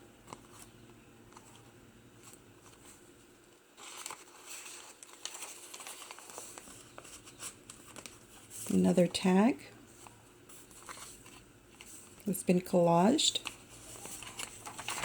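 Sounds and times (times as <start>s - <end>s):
paper rustling: 0.3s - 3.1s, 3.8s - 9.2s, 9.8s - 12.4s, 13.3s - 15.0s.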